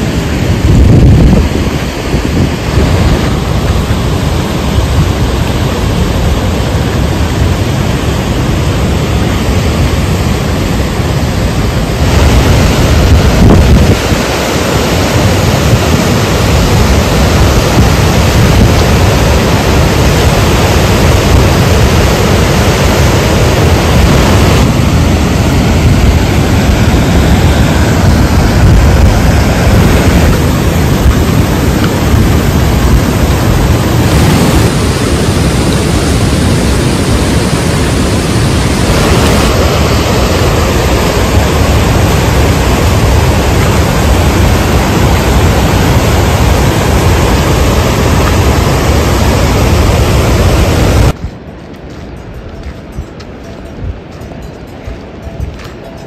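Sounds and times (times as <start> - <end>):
loud low rushing noise: 0.0 - 52.1.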